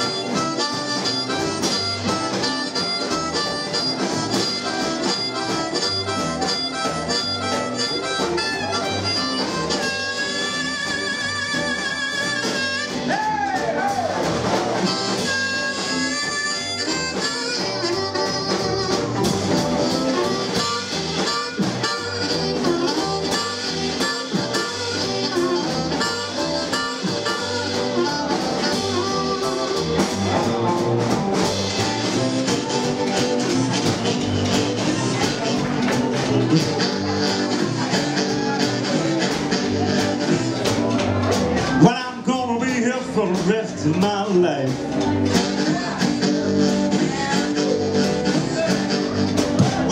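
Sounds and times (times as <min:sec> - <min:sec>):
blues harp through a microphone: 0:00.0 - 0:49.9
drums: 0:00.0 - 0:49.9
electric guitar: 0:00.0 - 0:49.9
upright double bass: 0:00.0 - 0:49.9.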